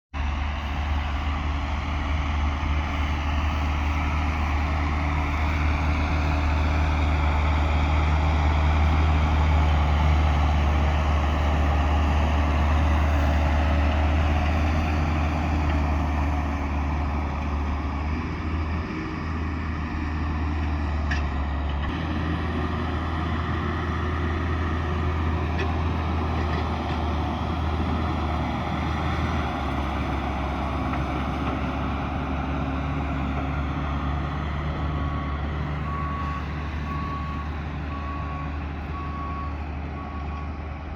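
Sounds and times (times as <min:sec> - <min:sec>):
tractor engine under load: 0:00.2 - 0:40.9.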